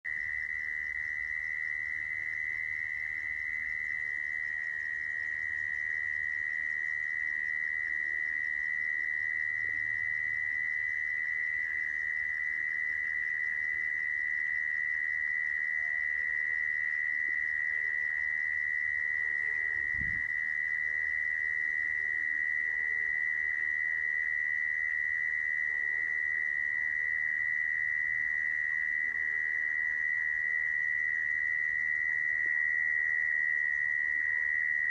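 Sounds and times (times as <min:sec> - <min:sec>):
cricket trilling: 0:00.1 - 0:34.9.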